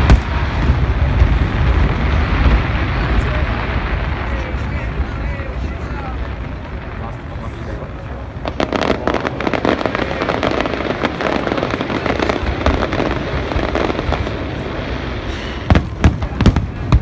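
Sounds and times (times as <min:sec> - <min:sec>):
fireworks crackling pops: 0:00.0 - 0:17.0
fireworks loud bangs: 0:00.0 - 0:17.0.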